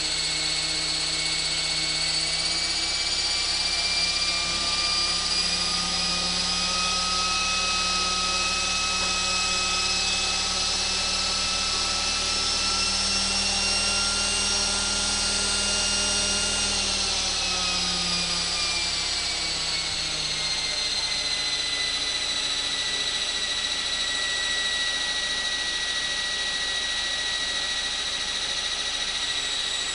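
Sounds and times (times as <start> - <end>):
electric motor and gear whine: 0.0 - 29.9.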